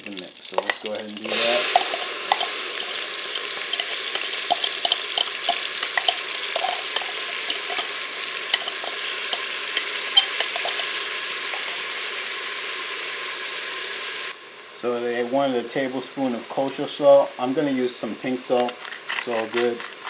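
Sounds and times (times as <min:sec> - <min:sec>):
onion sizzling in butter: 0:00.0 - 0:20.0.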